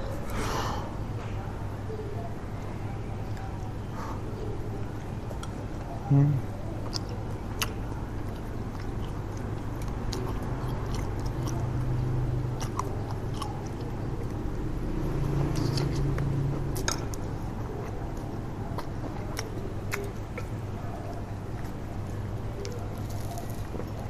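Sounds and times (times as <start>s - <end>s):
steady low hum: 0.0s - 24.0s
chewing steak: 2.6s - 24.0s.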